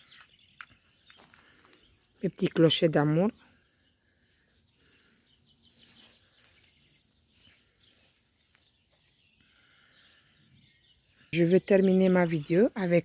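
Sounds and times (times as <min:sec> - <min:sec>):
faint high bird chirps: 0:00.0 - 0:02.3, 0:03.3 - 0:12.7.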